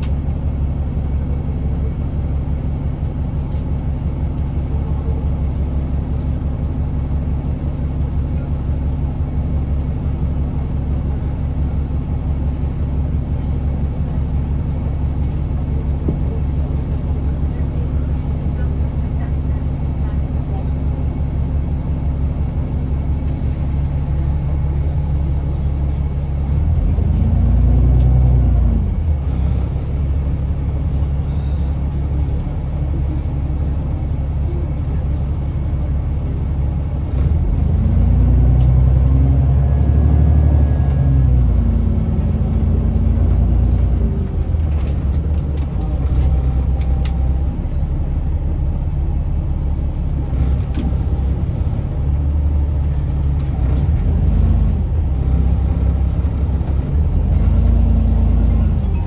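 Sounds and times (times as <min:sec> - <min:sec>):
diesel bus engine rumble: 0:00.0 - 0:59.0.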